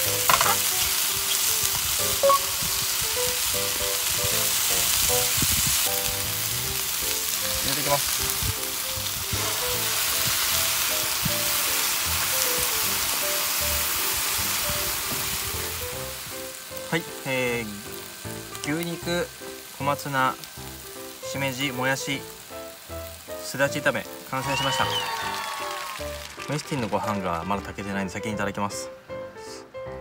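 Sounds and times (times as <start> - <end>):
food sizzling in a frying pan: 0.0 - 27.6.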